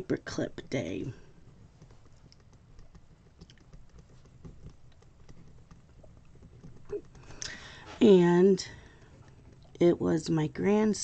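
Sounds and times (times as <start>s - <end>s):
faint light clicks and taps: 0.6s - 9.8s.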